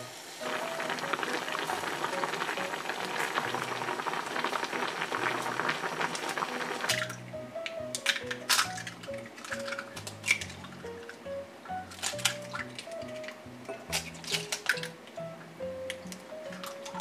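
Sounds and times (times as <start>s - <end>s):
stew boiling in a metal pot: 0.0s - 7.3s, 8.2s - 14.7s.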